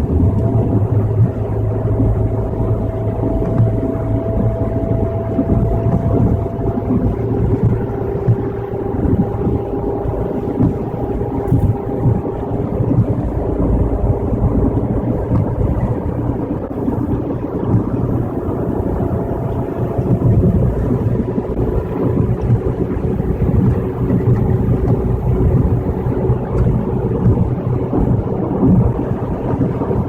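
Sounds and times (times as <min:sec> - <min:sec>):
car road noise on wet road: 0:00.0 - 0:30.0
faint steady hum: 0:00.0 - 0:30.0.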